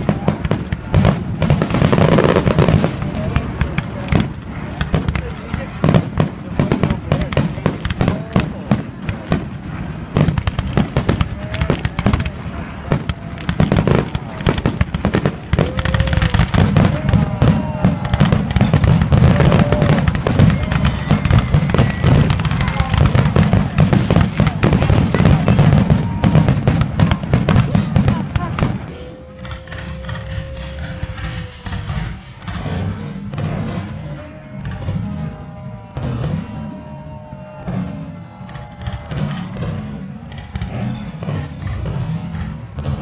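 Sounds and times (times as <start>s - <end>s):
fireworks barrage: 0.0s - 43.0s.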